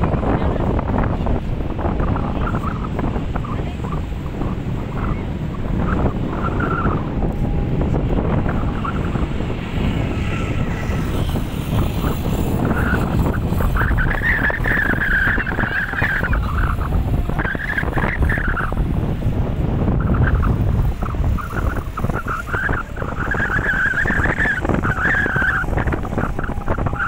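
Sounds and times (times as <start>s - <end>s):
wind buffeting microphone: 0.0s - 27.0s
wavering high-pitched whine: 2.0s - 27.0s.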